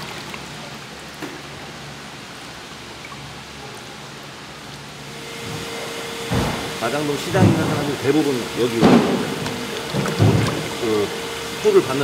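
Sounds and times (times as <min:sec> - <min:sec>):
running water splashing: 0:00.0 - 0:12.0.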